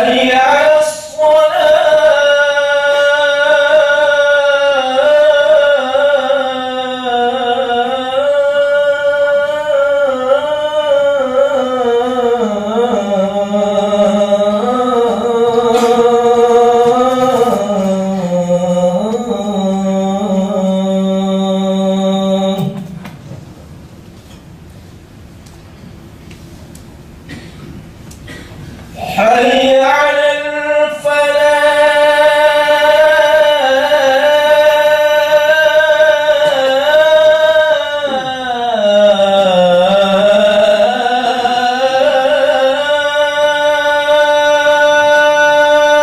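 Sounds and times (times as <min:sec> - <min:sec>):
man chanting call to prayer: 0:00.0 - 0:23.0, 0:29.0 - 0:46.0.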